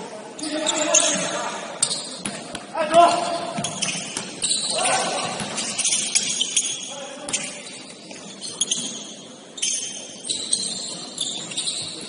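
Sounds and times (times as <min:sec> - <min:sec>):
sneakers squeaking on gym floor: 0:00.4 - 0:12.0.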